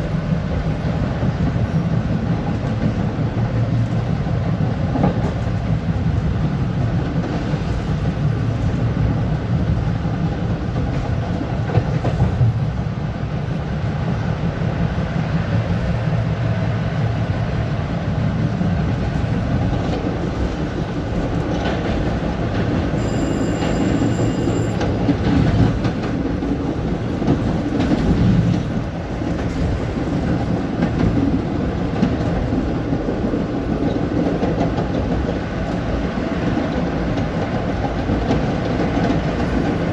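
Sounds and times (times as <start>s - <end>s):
train rumbling on rails: 0.0s - 39.9s
wheels clickety-clack: 0.6s - 12.8s, 18.4s - 39.9s.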